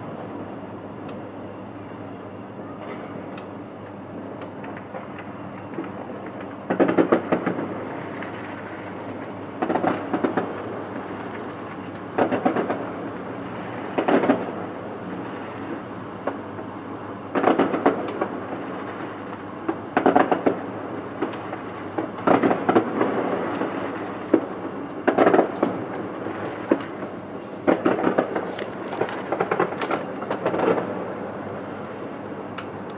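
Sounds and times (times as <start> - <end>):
fireworks bangs and crackles: 4.6 - 32.9.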